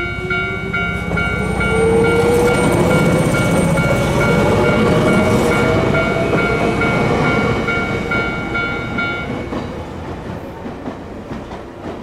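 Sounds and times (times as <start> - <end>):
train rumbling and clattering: 0.0 - 12.0.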